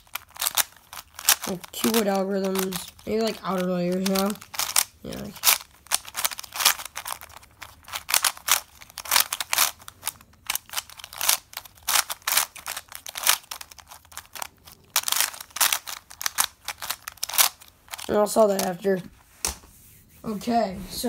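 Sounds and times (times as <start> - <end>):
puzzle cube clicking: 0.0 - 18.8.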